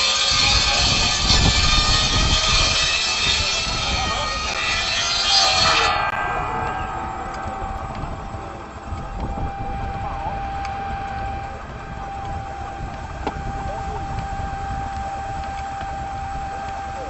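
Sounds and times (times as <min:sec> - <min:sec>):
machinery low rumble: 0:00.4 - 0:17.0
steady high-pitched tone: 0:00.6 - 0:17.0.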